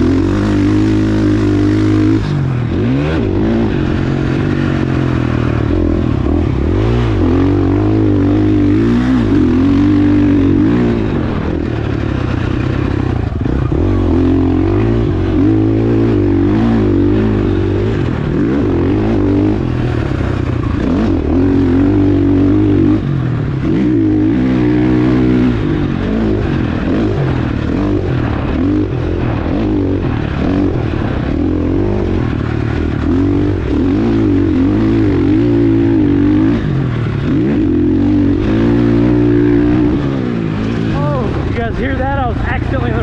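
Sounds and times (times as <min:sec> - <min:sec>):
motocross engine revving: 0:00.0 - 0:43.0.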